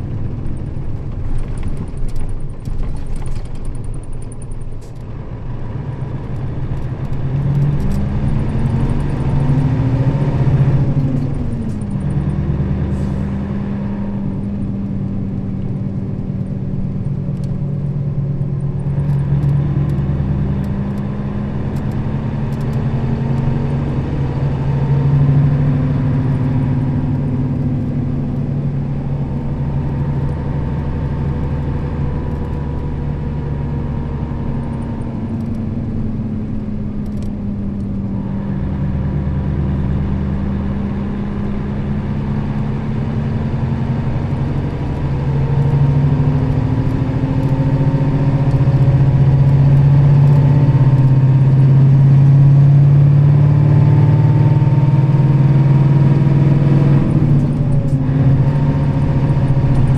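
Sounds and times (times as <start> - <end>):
bus engine revving: 0.0 - 59.9.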